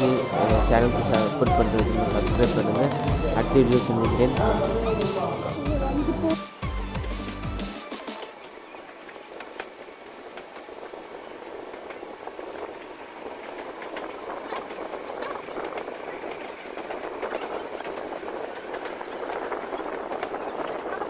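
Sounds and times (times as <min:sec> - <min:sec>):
train wheels clicking and clattering: 0:00.0 - 0:05.8, 0:06.4 - 0:21.0
train rumbling on rails: 0:00.0 - 0:21.0.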